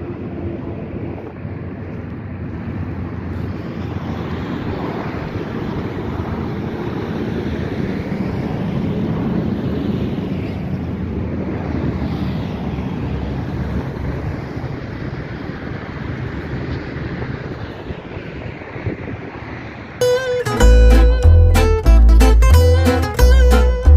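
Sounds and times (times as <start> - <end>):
wind buffeting microphone: 0.0 - 20.1.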